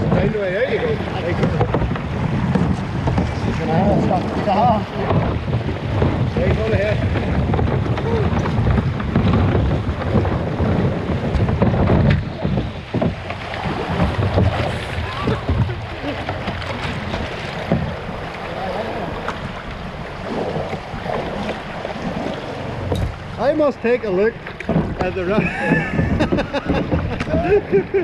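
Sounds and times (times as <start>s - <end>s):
paddle splashes: 0.0s - 28.0s
water moving around hull: 0.0s - 28.0s
wind buffeting microphone: 0.0s - 28.0s.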